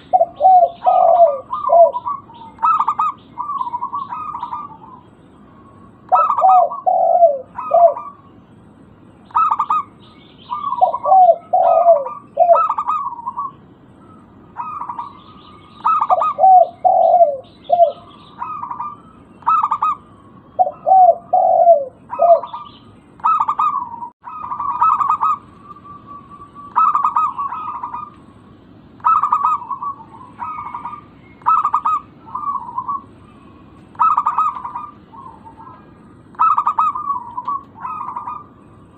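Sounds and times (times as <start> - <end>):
doves cooing: 0.0 - 8.4, 9.3 - 38.9.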